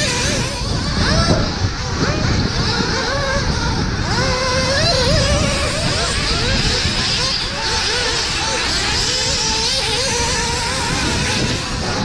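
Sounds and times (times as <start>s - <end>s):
model car engines whining: 0.0s - 12.0s.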